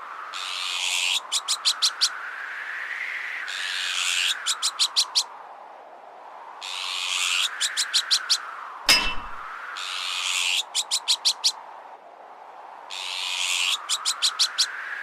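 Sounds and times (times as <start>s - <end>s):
whistling strong wind: 0.0s - 15.0s.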